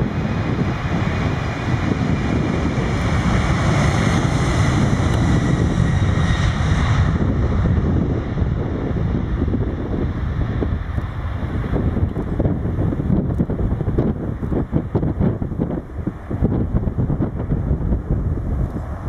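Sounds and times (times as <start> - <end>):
jet engines rumbling with whine: 0.0 - 19.0
wind buffeting microphone: 0.0 - 19.0.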